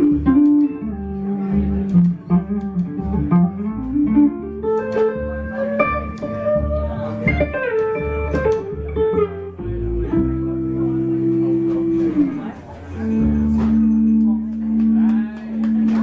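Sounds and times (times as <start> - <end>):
blues guitar melody: 0.0 - 16.0
upright bass notes: 0.0 - 16.0.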